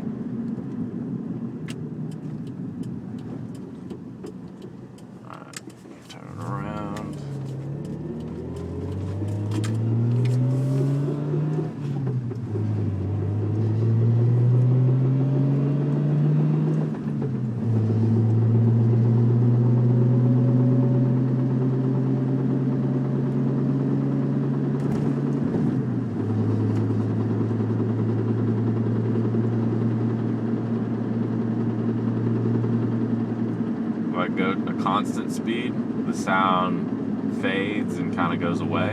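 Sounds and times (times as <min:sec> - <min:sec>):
car engine accelerating through gears: 0:01.8 - 0:38.9.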